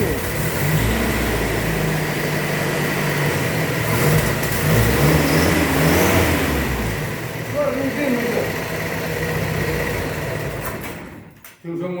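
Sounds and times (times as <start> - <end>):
jeep engine idling: 0.0 - 10.9.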